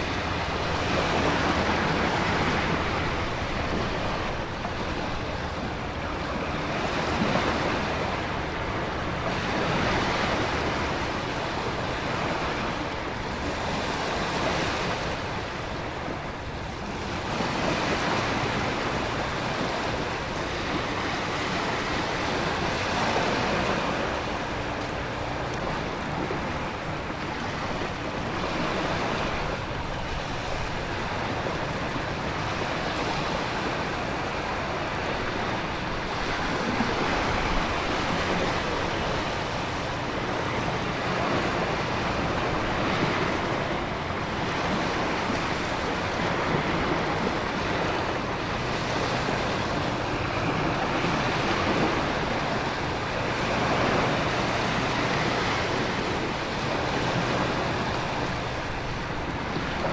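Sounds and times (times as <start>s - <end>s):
heavy surf: 0.0s - 59.9s
wind: 0.0s - 59.9s.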